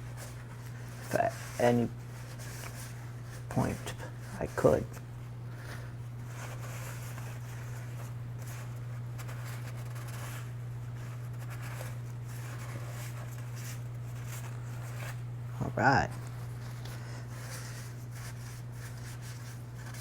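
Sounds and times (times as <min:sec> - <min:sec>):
rubbing and wiping by hand: 0:00.0 - 0:05.1, 0:06.0 - 0:20.0
low electrical hum: 0:00.0 - 0:20.0.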